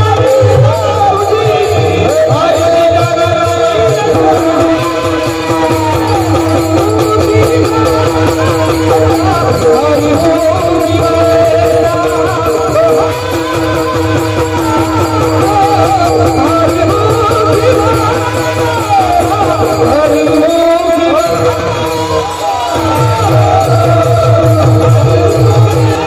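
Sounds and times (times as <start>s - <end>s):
barrel drum beat: 0.0s - 26.0s
hand cymbals clashing: 0.0s - 26.0s
men singing in chorus: 0.0s - 26.0s.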